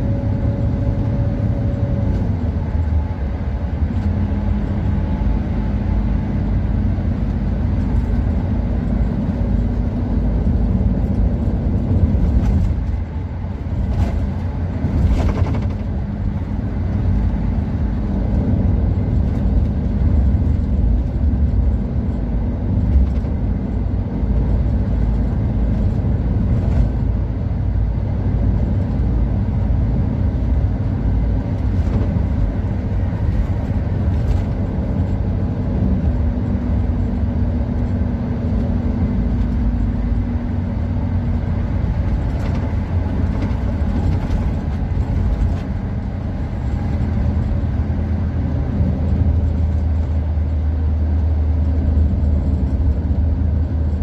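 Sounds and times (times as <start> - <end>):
engine drone: 0.0 - 54.0
road rumble: 0.0 - 54.0.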